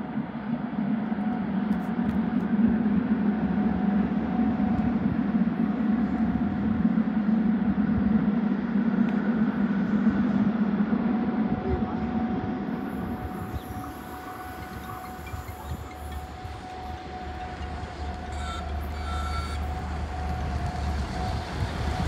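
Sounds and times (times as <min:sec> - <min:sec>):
approaching train hum and rumble: 0:00.0 - 0:22.0.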